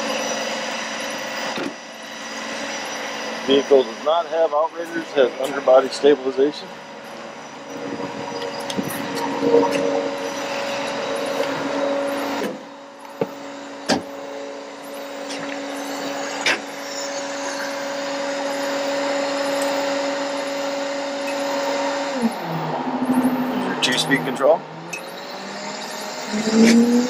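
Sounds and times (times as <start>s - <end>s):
truck engine humming: 0.0s - 27.0s.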